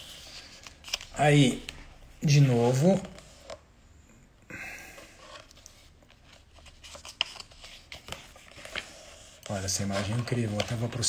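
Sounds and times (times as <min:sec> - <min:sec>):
paper pages rustling: 0:00.0 - 0:03.6, 0:05.1 - 0:11.0.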